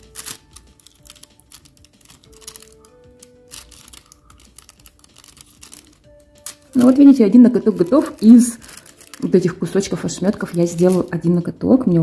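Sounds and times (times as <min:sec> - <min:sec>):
plastic film crinkling and ticking: 0:00.0 - 0:12.0
soft music with held notes: 0:00.0 - 0:12.0.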